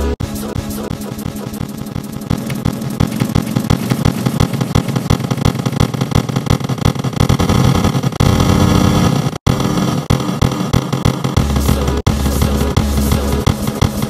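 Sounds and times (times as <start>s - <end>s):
harsh distorted buzzing din: 0.0s - 14.0s.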